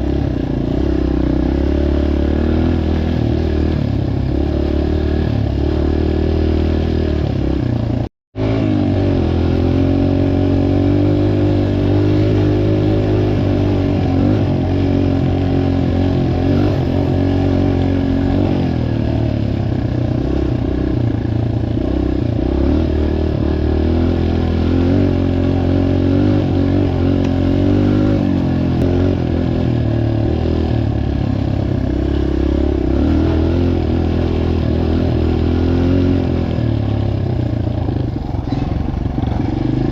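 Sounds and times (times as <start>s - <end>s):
dirt bike engines running: 0.0s - 39.9s.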